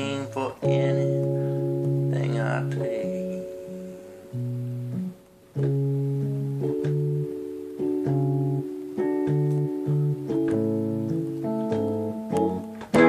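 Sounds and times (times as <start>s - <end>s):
bass notes: 0.0s - 13.0s
electric keyboard chords: 0.0s - 13.0s.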